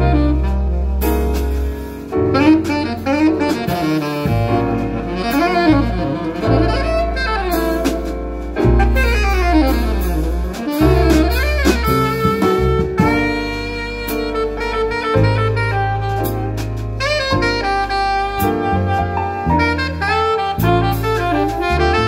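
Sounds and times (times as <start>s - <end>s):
drum kit with cymbals: 0.0s - 22.0s
electric bass guitar: 0.0s - 22.0s
piano: 0.0s - 22.0s
saxophone melody: 0.0s - 22.0s.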